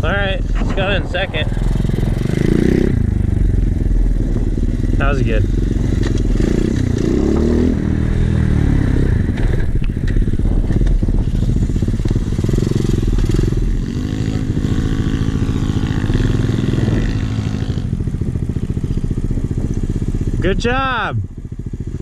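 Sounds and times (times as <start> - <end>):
pit bike engine revving: 0.0 - 22.0.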